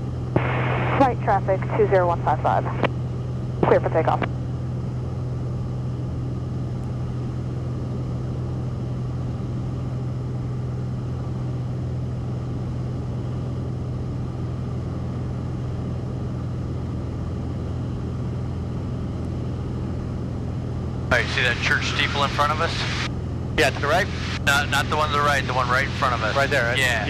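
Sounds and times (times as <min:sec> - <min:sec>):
aircraft engine and propeller droning: 0:00.0 - 0:27.0.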